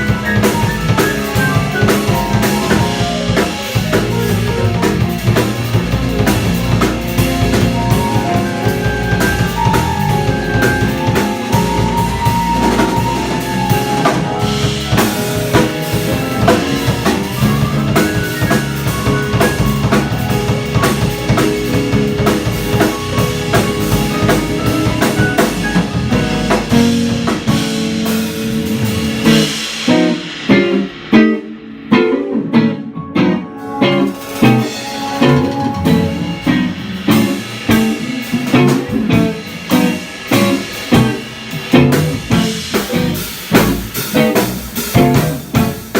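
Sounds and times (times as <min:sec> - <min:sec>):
bass: 0:00.0 - 0:45.9
drum kit: 0:00.0 - 0:45.9
guitar: 0:00.0 - 0:45.9
piano: 0:00.0 - 0:45.9.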